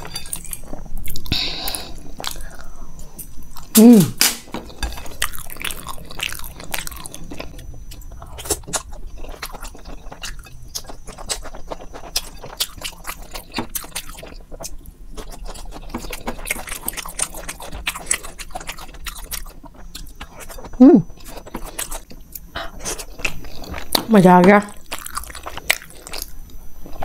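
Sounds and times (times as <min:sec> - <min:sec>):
chewing soft food: 0:00.0 - 0:03.7, 0:04.7 - 0:27.0.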